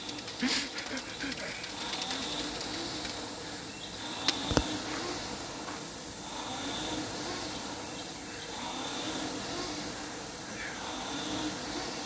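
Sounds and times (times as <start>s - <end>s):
rowing machine fan whirring: 0.0s - 12.0s.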